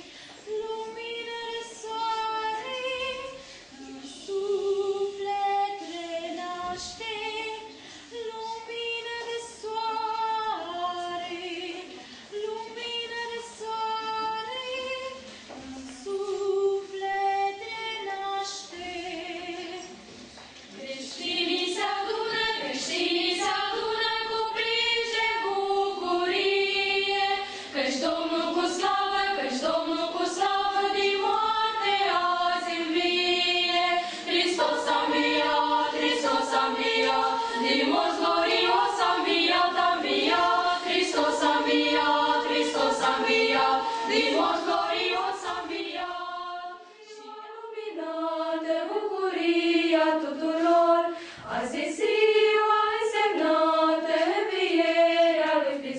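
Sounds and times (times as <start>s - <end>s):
choir singing unaccompanied: 0.0s - 20.1s, 20.7s - 55.9s.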